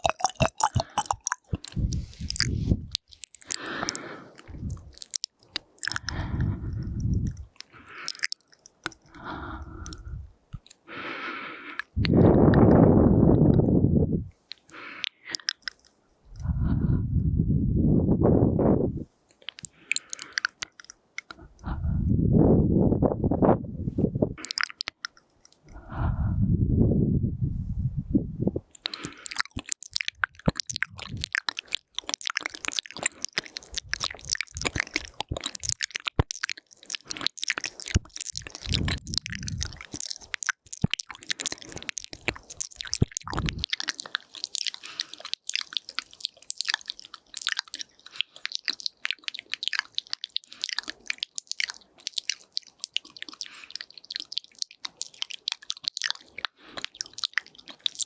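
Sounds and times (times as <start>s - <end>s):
wet mouth clicks and smacks: 0.0s - 10.9s, 11.6s - 13.8s, 14.4s - 16.7s, 19.3s - 21.7s, 24.4s - 26.0s, 28.7s - 58.0s.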